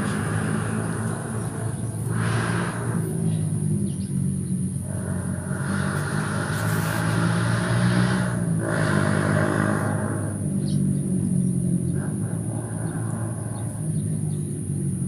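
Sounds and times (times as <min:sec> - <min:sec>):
engine humming: 0:00.0 - 0:15.0
rush of engine noise: 0:00.0 - 0:15.0.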